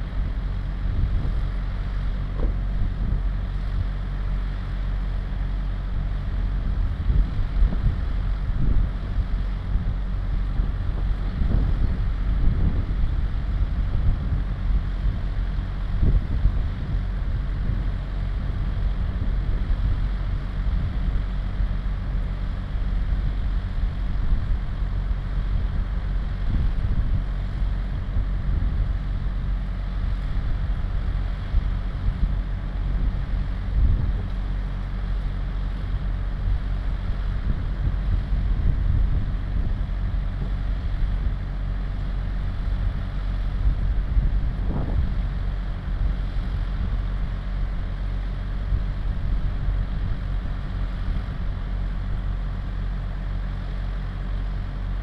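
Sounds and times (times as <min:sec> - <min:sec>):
wind buffeting microphone: 0:00.0 - 0:53.4
vehicle engine idling: 0:00.0 - 0:55.0.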